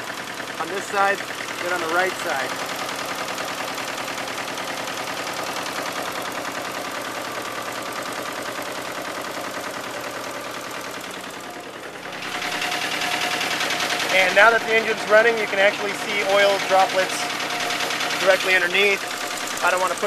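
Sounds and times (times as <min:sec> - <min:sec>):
engine running with rapid knock: 0:00.0 - 0:20.0.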